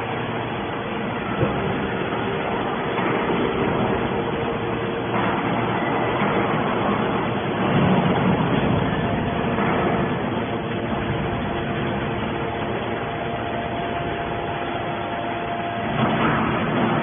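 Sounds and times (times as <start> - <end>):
baler motor and pump humming: 0.0 - 17.0.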